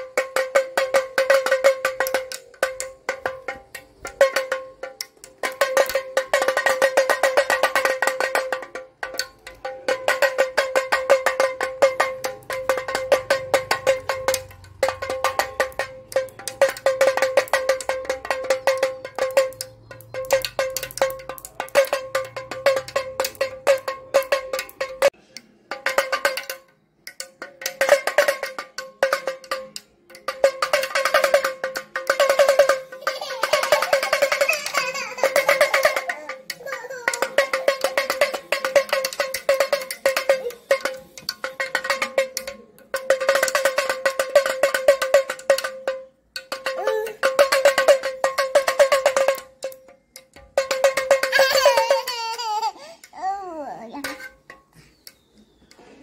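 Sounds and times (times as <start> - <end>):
pellet drum rattling: 0.0 - 55.4.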